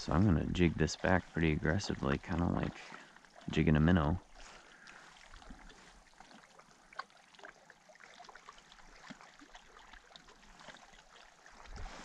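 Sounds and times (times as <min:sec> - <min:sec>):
lake water lapping: 0:00.0 - 0:12.0
small ticks and drips: 0:00.0 - 0:12.0.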